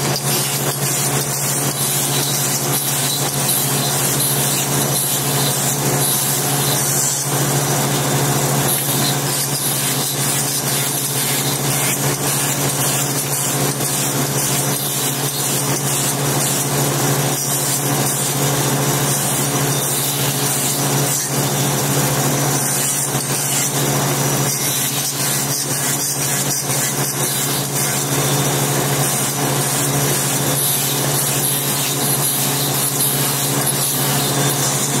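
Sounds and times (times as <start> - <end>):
circular saw humming: 0.0 - 35.0
hiss of stone being cut: 0.0 - 35.0.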